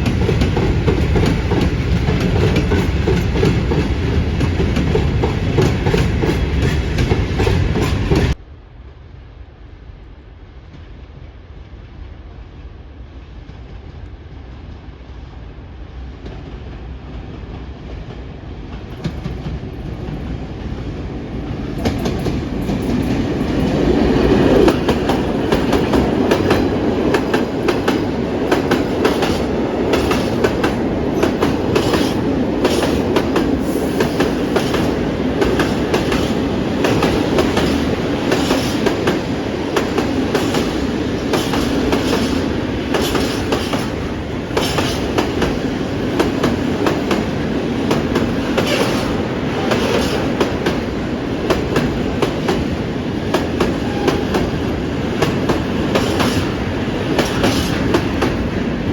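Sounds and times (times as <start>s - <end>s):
train wheels clicking over rail joints: 0.0s - 8.4s, 18.7s - 20.5s, 21.4s - 58.6s
train passing: 0.0s - 58.9s.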